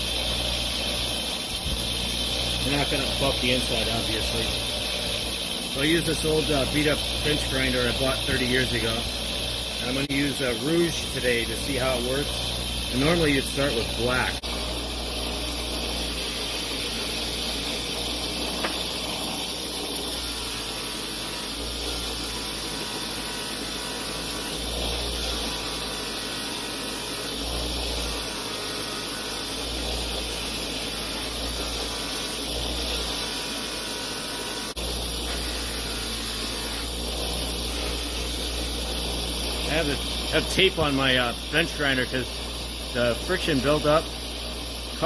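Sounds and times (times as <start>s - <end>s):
bench grinder motor hum: 0.0s - 45.0s
buffing wheel hiss: 0.0s - 45.0s.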